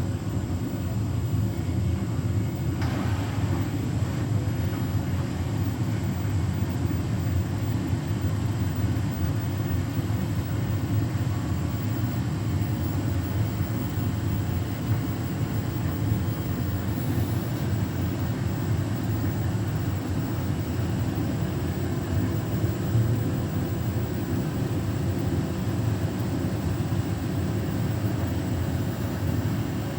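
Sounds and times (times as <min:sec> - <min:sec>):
washing machine spinning: 0:00.0 - 0:29.9.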